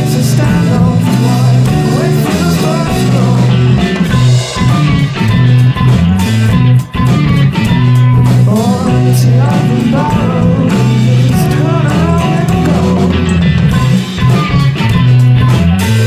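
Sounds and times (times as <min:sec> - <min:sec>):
psychedelic rock song with singing: 0:00.0 - 0:16.0.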